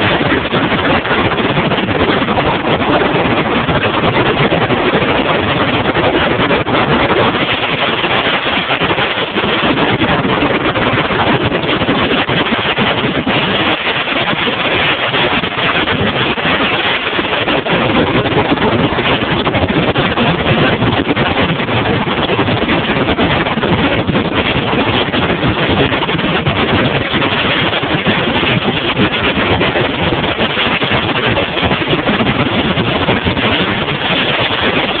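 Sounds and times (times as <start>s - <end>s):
outboard motor running: 0.0s - 35.0s
wind and water rushing: 0.0s - 35.0s.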